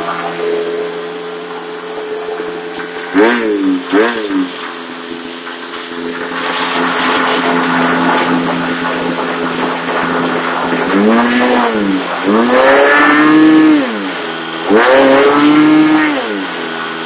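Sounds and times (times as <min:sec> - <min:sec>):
model engine spinning propeller: 0:00.0 - 0:17.0.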